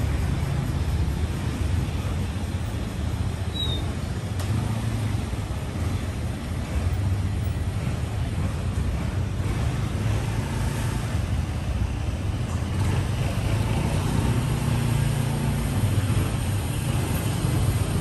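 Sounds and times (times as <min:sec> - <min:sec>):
street traffic rumble: 0:00.0 - 0:18.0
vehicles passing: 0:00.0 - 0:18.0.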